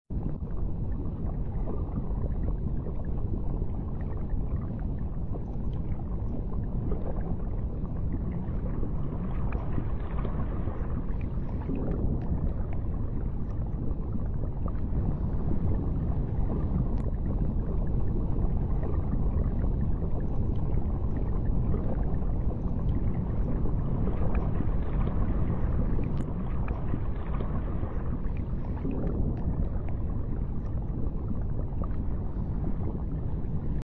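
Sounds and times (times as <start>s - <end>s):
underwater rumble of moving water: 0.1s - 33.8s.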